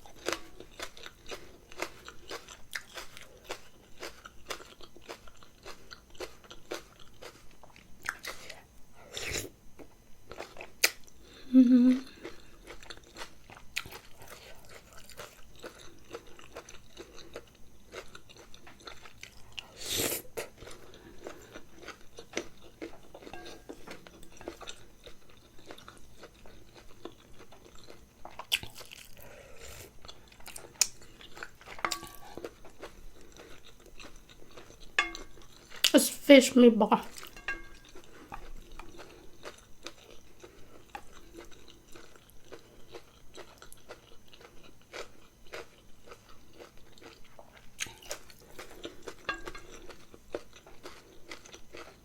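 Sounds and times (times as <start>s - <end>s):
person chewing and crunching food: 0.0s - 36.3s, 36.9s - 52.0s.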